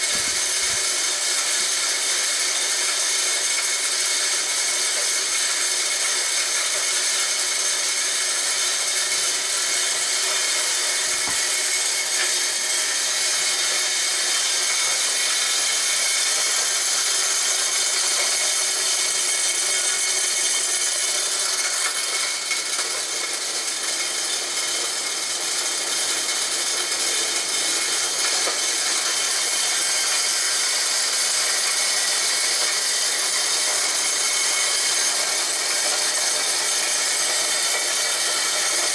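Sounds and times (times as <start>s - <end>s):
corn grinder grinding: 0.0s - 38.9s.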